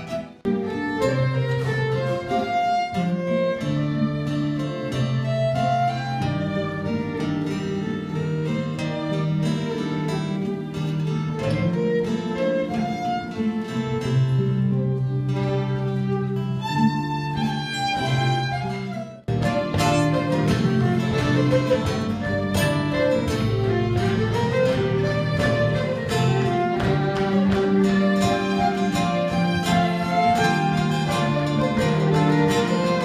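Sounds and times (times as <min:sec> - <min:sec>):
acoustic guitar strumming: 0:00.0 - 0:33.0
fiddle tune: 0:00.0 - 0:33.0.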